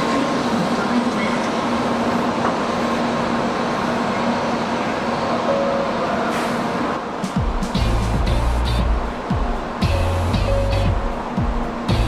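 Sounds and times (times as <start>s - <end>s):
train equipment hum: 0.0s - 12.0s.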